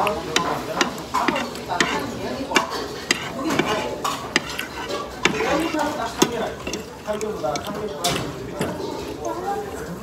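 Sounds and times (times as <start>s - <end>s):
cutlery clinking on a ceramic plate: 0.0s - 9.2s.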